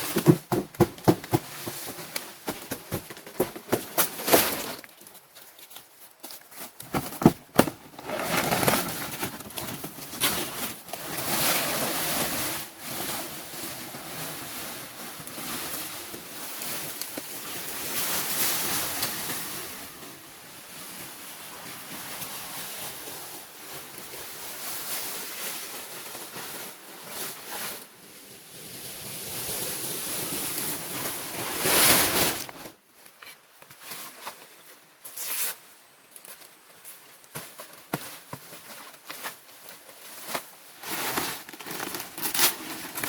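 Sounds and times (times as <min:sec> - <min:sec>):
rustles: 0:00.0 - 0:43.0.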